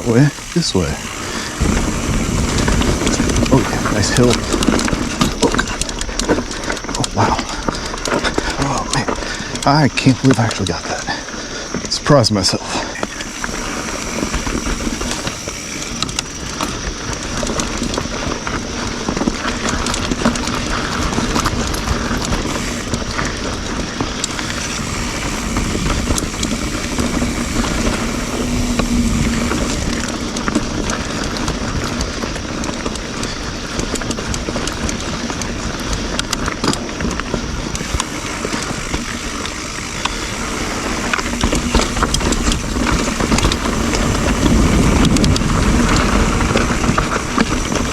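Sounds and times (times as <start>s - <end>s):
tyre and wind rush: 0.0s - 7.7s, 12.9s - 47.9s
bike clicks and rattles: 0.0s - 47.9s.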